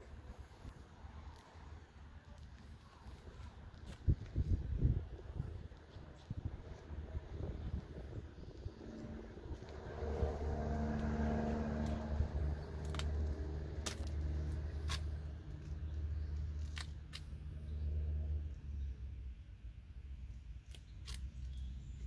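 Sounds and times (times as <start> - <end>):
vehicle engine humming: 0.0 - 19.4.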